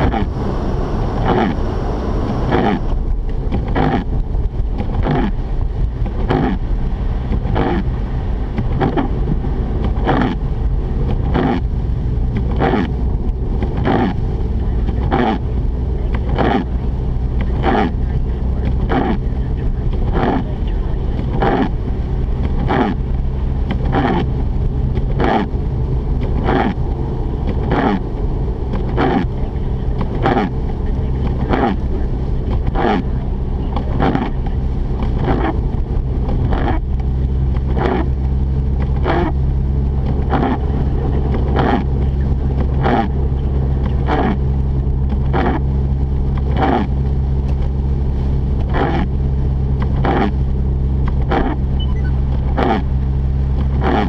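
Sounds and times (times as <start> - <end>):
engine and tyre hum: 0.0 - 54.0.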